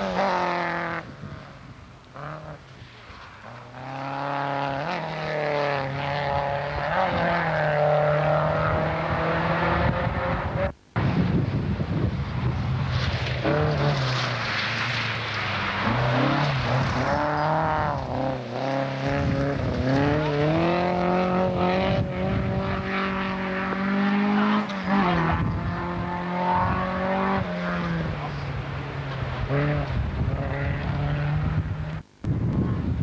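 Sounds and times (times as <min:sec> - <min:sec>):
rally car engine revving: 0:00.0 - 0:32.2.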